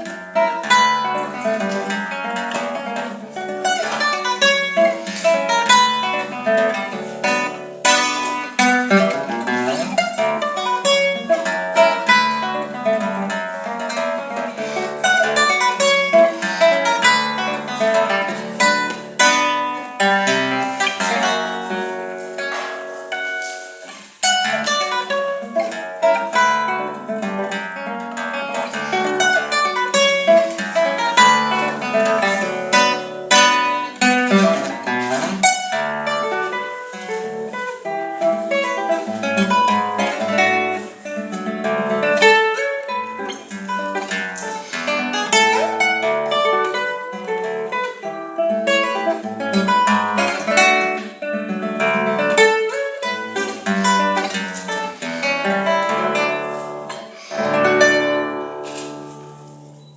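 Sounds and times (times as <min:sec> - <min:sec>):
classical guitar fingerstyle: 0:00.0 - 0:59.9.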